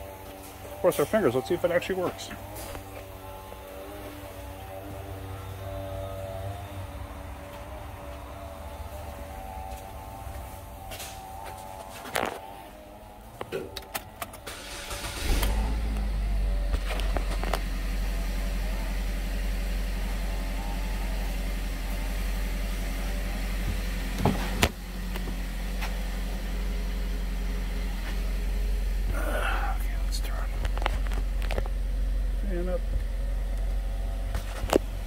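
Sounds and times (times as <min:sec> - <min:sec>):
car engine starting and idling: 0:00.0 - 0:35.0.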